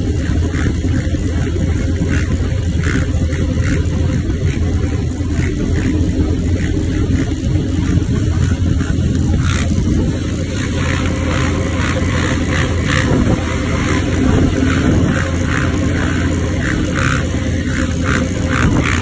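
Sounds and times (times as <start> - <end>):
vehicles passing at speed: 0.0 - 19.0.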